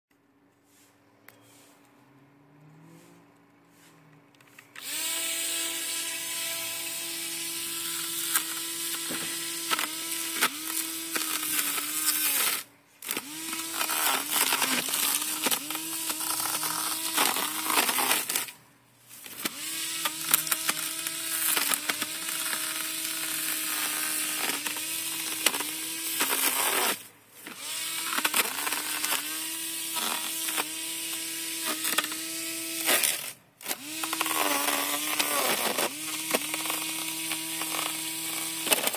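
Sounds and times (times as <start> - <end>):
electric grass trimmer whining: 4.6 - 38.9.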